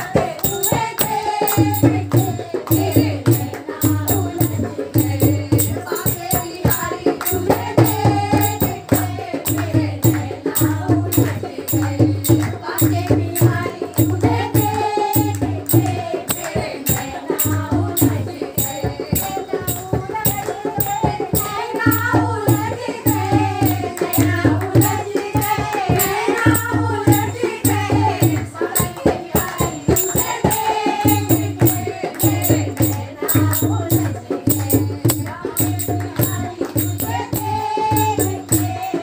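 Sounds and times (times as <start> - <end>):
person singing devotional song: 0.0 - 39.0
rhythmic percussion beat: 0.0 - 39.0.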